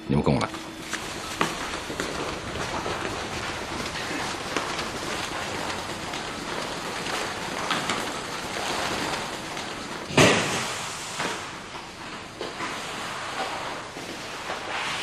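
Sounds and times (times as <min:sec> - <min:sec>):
footsteps on hard floor: 0:00.5 - 0:15.0
steady hiss: 0:00.6 - 0:15.0.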